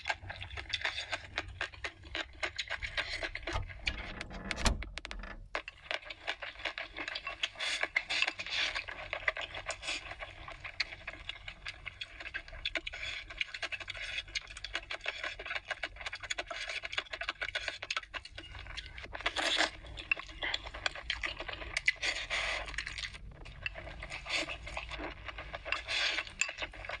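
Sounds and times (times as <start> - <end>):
noodles slurped and chewed: 0.0 - 3.5, 5.6 - 27.0.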